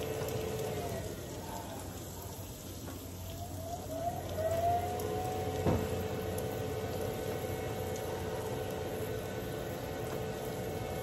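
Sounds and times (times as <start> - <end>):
grill fan running: 0.0 - 11.0.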